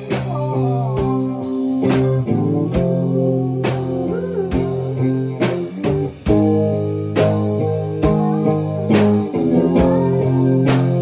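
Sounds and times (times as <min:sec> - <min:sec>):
electric guitar riffing: 0:00.0 - 0:11.0
steady drum beat: 0:00.0 - 0:11.0.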